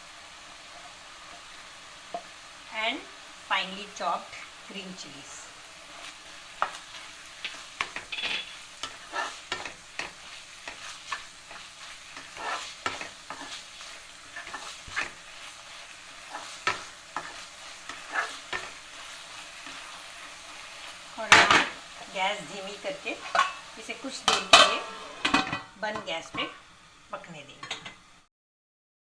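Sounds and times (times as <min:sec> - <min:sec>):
meat sizzling in a pan: 0:00.0 - 0:28.3
spatula scraping a pan: 0:00.4 - 0:02.5, 0:05.6 - 0:26.7.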